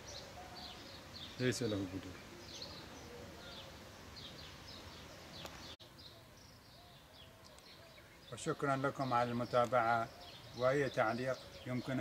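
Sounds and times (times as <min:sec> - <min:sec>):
birds chirping: 0:00.0 - 0:12.0
low steady hiss: 0:00.0 - 0:12.0.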